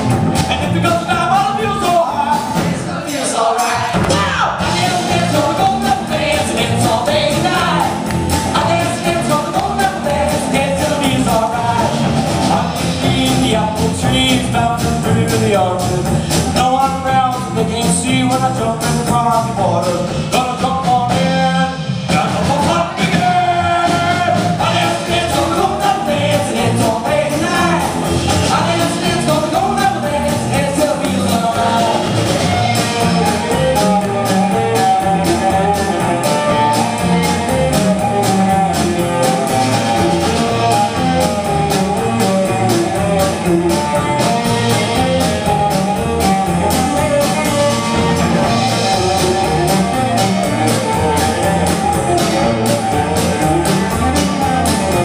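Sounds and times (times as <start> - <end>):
rock band playing: 0.0 - 55.0
person singing: 0.4 - 55.0.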